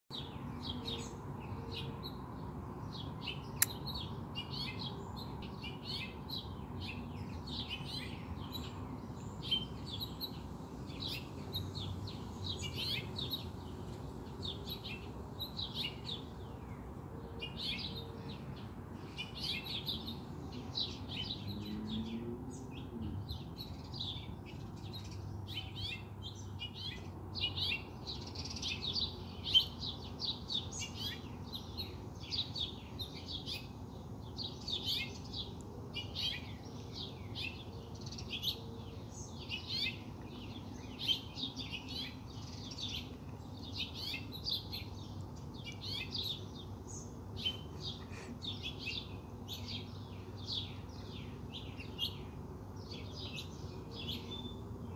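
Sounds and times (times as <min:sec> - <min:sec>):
low background noise: 0:00.1 - 0:54.9
songbirds chirping: 0:00.1 - 0:54.9.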